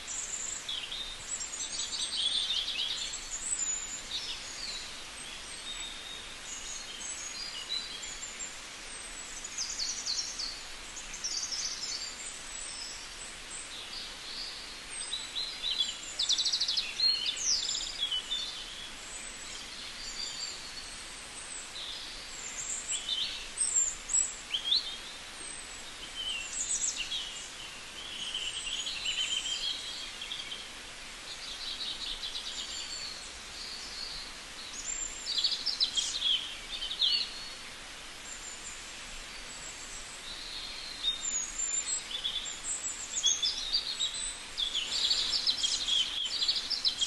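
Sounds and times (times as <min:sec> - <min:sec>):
background hiss: 0:00.0 - 0:47.0
small birds chirping and singing: 0:00.0 - 0:47.0.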